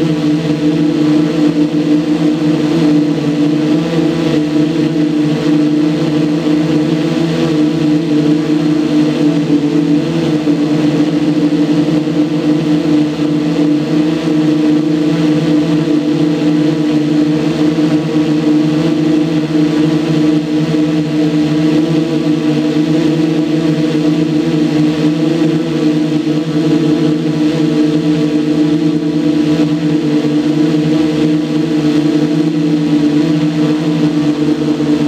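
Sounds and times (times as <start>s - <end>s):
small engine buzzing drone: 0.0s - 35.0s.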